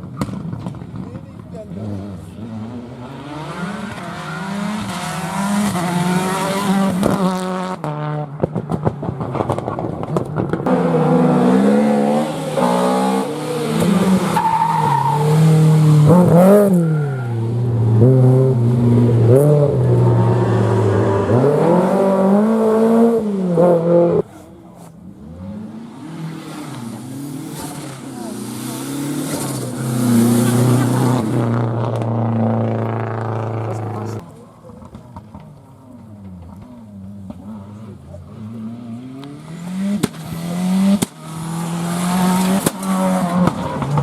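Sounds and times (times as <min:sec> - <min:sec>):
rally car engine revving: 0:00.1 - 0:44.0.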